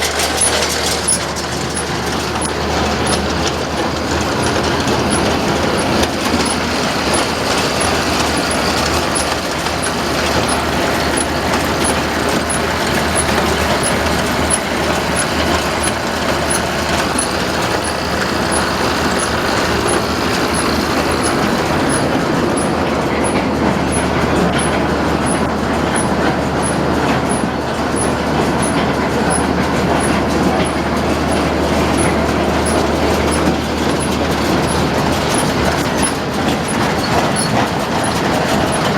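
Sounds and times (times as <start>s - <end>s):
baler mechanical rattle: 0.0s - 38.9s
tractor humming: 0.0s - 38.9s.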